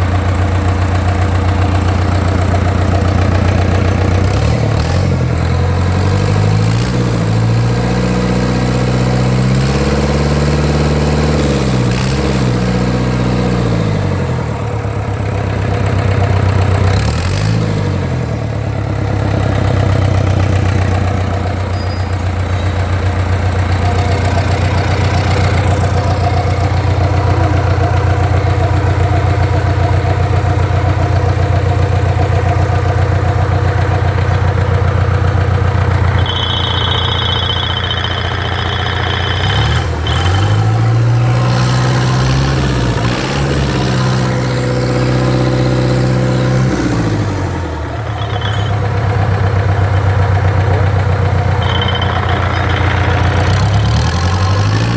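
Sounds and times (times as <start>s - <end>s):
diesel engine revving and idling: 0.0s - 54.9s.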